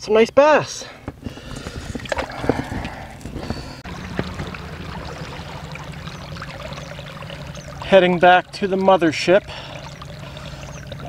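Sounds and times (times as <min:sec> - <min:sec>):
small boat motor humming: 0:01.0 - 0:11.0
water gurgling along hull: 0:01.0 - 0:11.0
water splashes and knocks: 0:01.1 - 0:11.0.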